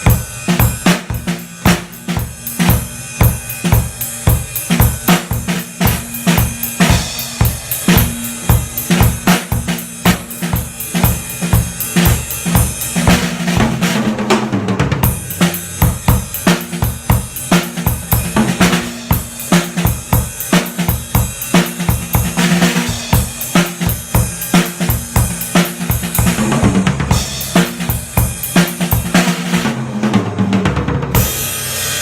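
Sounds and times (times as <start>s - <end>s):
drum kit groove: 0.0s - 32.0s.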